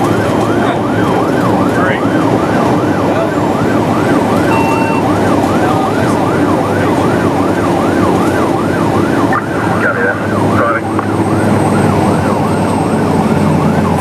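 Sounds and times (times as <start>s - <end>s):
engine and road noise: 0.0s - 14.0s
fire engine siren yelping: 0.0s - 14.0s.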